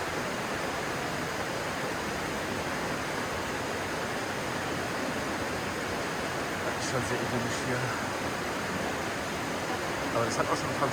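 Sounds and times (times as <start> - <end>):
stream water flowing: 0.0 - 10.9.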